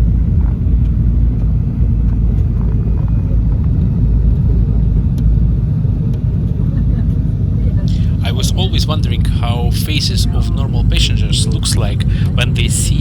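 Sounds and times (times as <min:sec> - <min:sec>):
propeller engines rumbling: 0:00.0 - 0:13.0.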